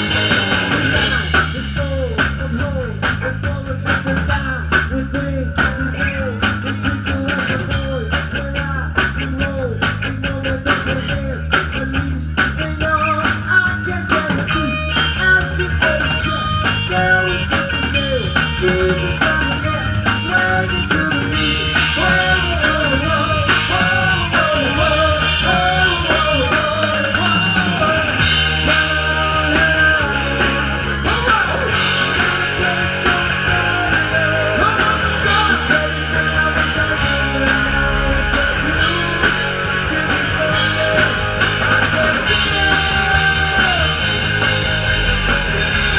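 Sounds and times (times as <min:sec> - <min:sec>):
rock band playing: 0:00.0 - 0:45.9
person singing: 0:00.9 - 0:44.2.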